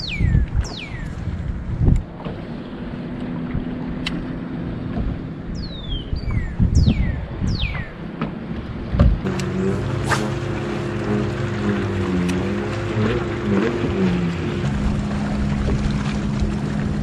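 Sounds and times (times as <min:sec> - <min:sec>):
low steady hum: 0:00.0 - 0:17.0
wind buffeting microphone: 0:00.0 - 0:17.0.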